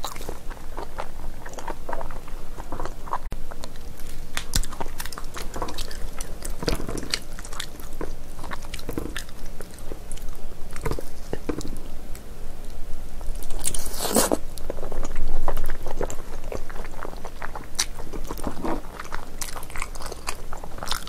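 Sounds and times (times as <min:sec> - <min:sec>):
close chewing and biting: 0:00.0 - 0:12.2, 0:13.2 - 0:21.0.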